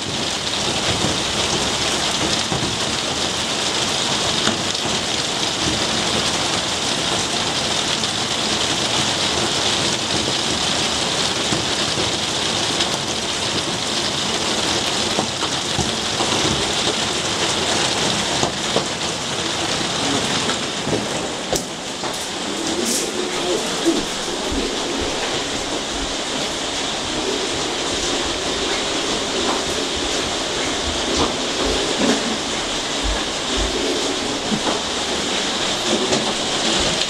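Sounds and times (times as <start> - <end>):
rain on foliage and pavement: 0.0 - 37.0.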